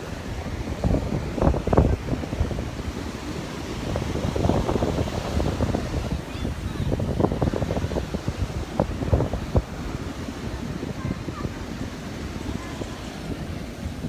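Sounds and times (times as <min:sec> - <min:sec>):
heavy surf: 0:00.0 - 0:14.0
wind buffeting microphone: 0:00.0 - 0:14.0.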